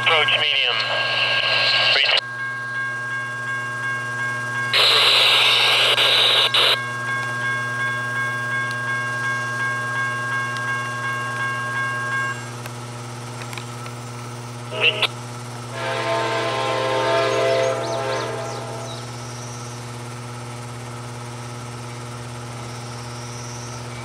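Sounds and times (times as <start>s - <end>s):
railroad warning bell ringing: 0.0s - 24.0s
train low hum: 0.0s - 24.0s.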